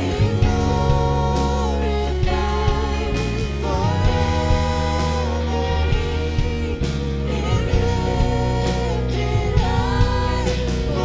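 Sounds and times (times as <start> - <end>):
bass guitar: 0.0 - 11.0
electric guitar: 0.0 - 11.0
people singing: 0.0 - 11.0
steady drum beat: 0.0 - 11.0.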